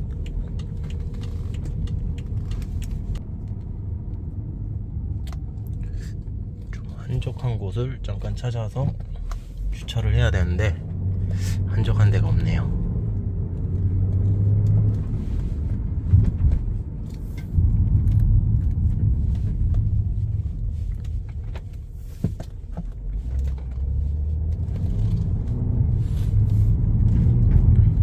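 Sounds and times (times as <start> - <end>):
car engine hum: 0.0 - 28.0
road noise: 0.0 - 28.0.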